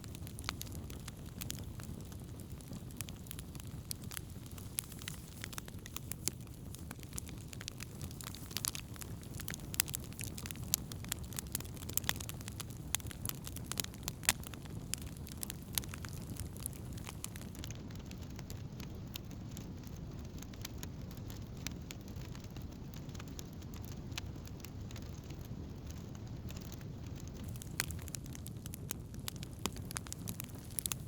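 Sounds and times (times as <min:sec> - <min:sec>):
fire crackling and popping: 0:00.0 - 0:31.0
low fire rumble: 0:00.0 - 0:31.0.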